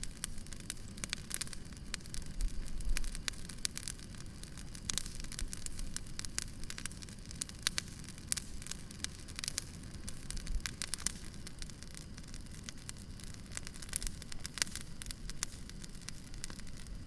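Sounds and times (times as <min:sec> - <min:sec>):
campfire pops and crackles: 0:00.0 - 0:17.0
hiss of flames: 0:00.0 - 0:17.0.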